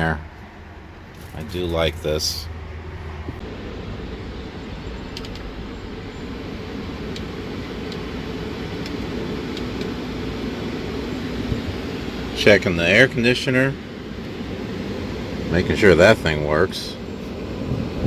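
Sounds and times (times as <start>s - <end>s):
air conditioner blower: 3.0s - 18.0s.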